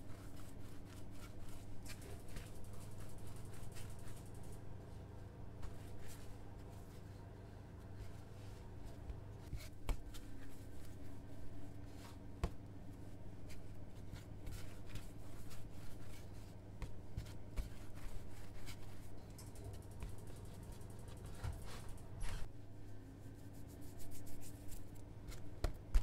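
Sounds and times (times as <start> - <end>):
hands rubbing dough: 0.0 - 26.0.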